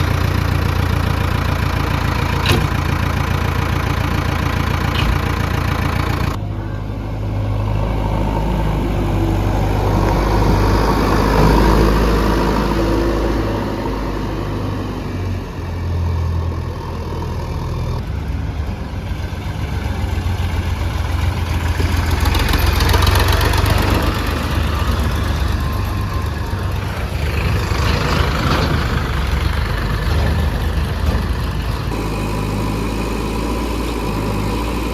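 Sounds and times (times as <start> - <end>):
heavy machinery diesel engine: 0.0 - 34.9.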